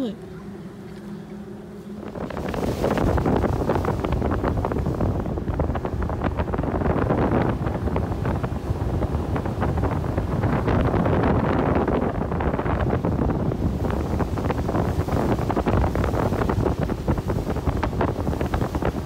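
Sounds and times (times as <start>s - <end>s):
outboard motor rumble: 0.0s - 19.0s
wind buffeting microphone: 0.0s - 19.0s.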